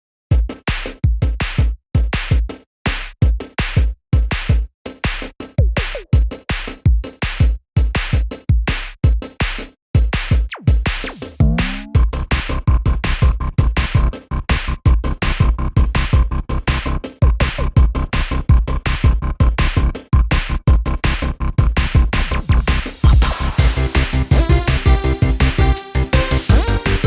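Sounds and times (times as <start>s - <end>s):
electronic music with drum beat: 0.3s - 27.0s.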